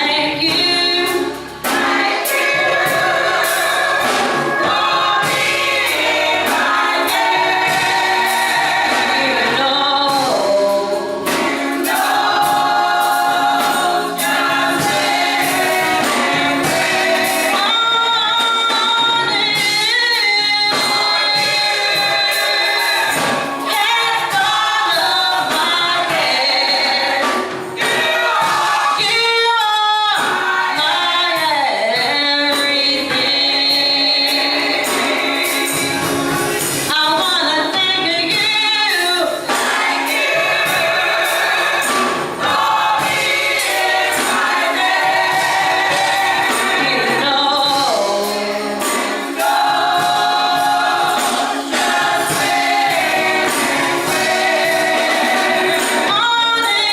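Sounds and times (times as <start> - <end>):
gospel choir singing: 0.0 - 56.9
instrumental accompaniment: 0.0 - 56.9.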